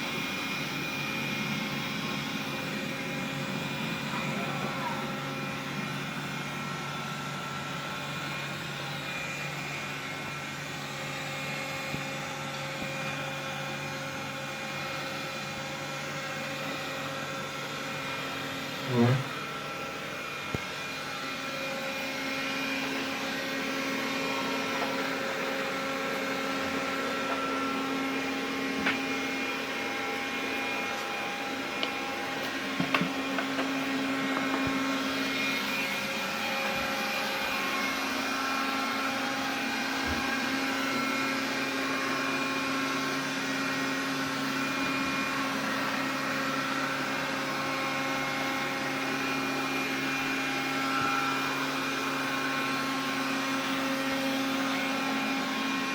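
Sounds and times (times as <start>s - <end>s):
vacuum cleaner whirring hum: 0.0s - 55.9s.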